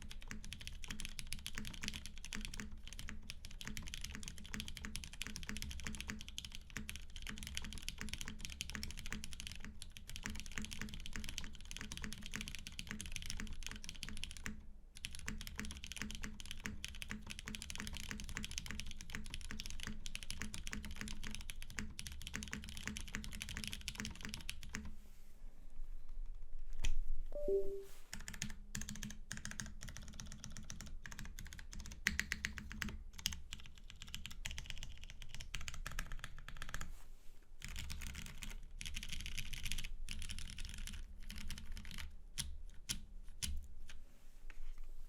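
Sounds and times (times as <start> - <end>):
fast mechanical keyboard typing: 0.0 - 24.9, 28.2 - 36.9, 37.6 - 43.6.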